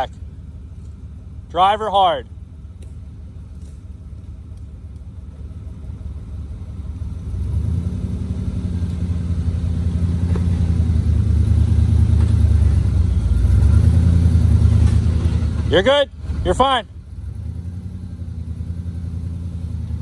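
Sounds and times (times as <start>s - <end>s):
off-road vehicle engine under load: 0.0s - 20.0s.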